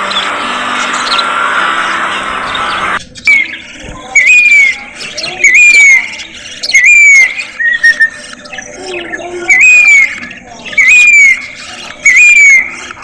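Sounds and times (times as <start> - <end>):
budgerigar calling: 0.0 - 13.0.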